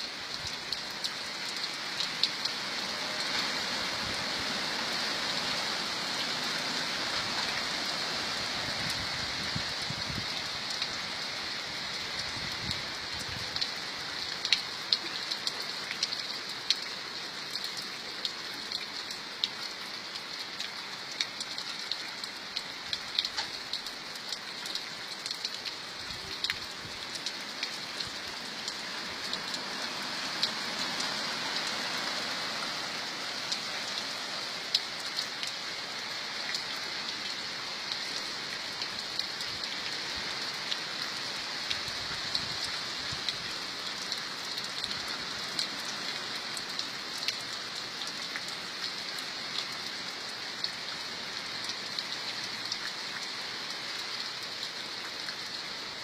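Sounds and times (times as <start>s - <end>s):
rain falling steadily: 0.0s - 56.0s
raindrops ticking on a surface: 0.0s - 56.0s.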